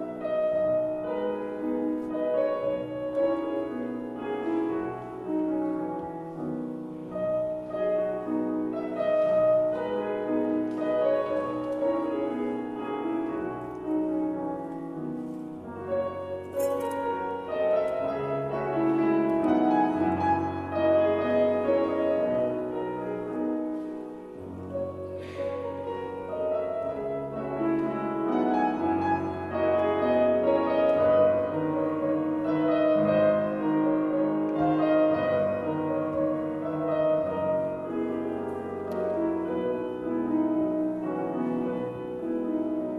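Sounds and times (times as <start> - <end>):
solo grand piano piece: 0.0 - 42.9.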